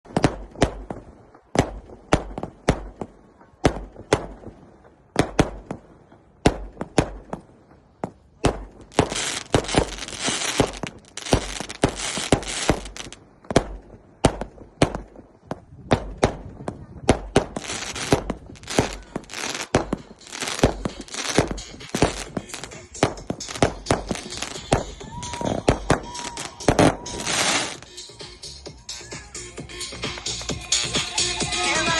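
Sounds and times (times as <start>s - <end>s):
fireworks banging: 0.1s - 27.9s
fireworks crackling: 0.1s - 28.3s.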